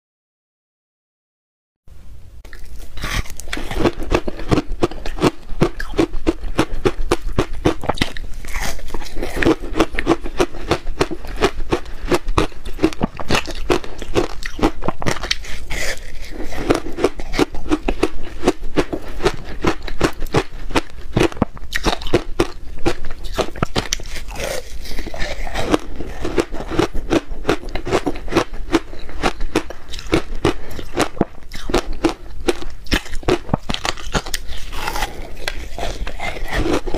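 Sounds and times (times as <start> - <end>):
crunching frozen ice: 2.5 - 36.9.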